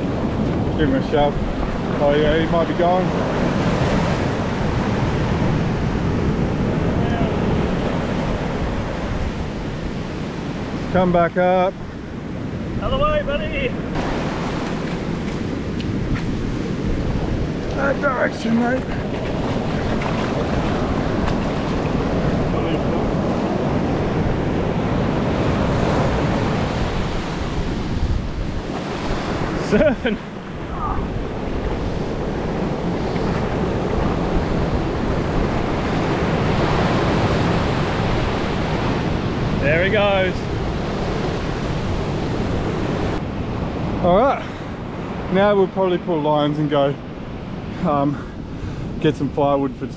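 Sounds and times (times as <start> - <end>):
surf washing in: 0.0 - 49.9
wind buffeting microphone: 0.0 - 49.9.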